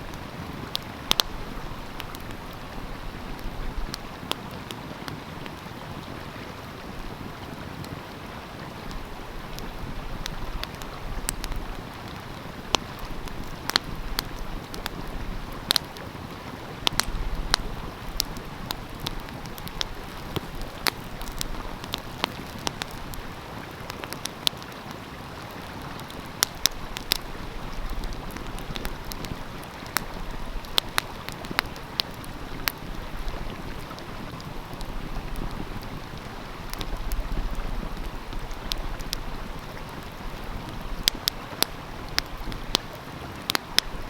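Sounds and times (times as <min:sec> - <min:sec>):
stream rushing: 0:00.0 - 0:44.0
wood fire crackling: 0:00.0 - 0:44.0.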